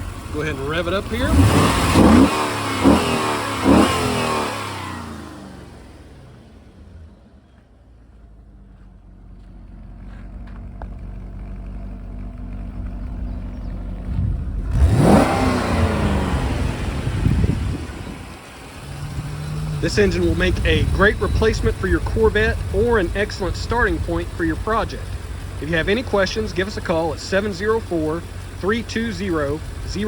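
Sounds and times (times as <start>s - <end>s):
car engine revving: 0.0s - 7.6s, 9.4s - 30.0s
car engine idling: 0.0s - 30.0s.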